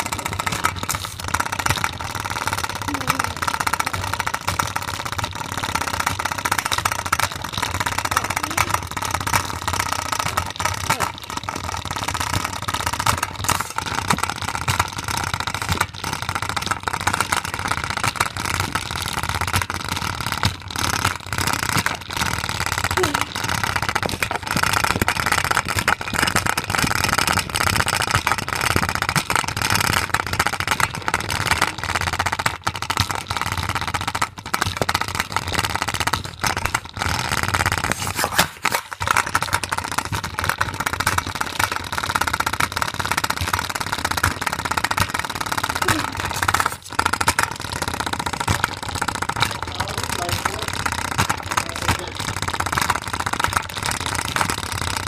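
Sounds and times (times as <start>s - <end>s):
container banging in spinner: 0.0s - 54.4s.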